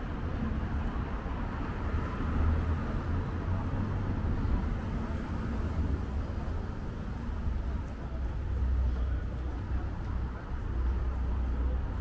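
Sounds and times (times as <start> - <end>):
rumble of passing vehicles: 0.0 - 12.0.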